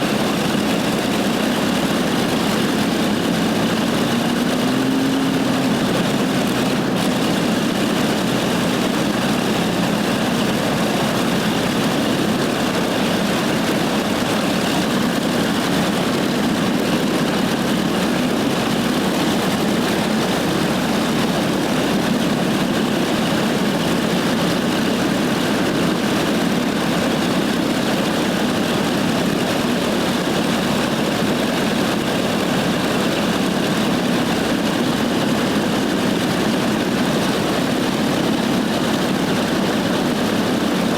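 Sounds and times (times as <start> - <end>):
propeller plane engine idling: 0.0 - 40.9.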